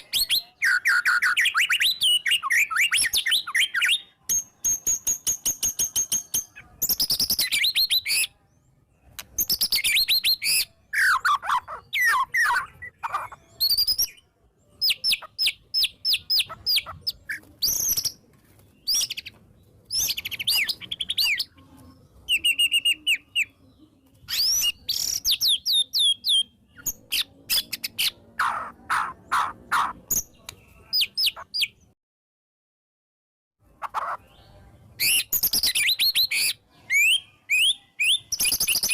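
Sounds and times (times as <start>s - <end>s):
bird singing varied song: 0.0s - 32.0s, 33.6s - 38.9s.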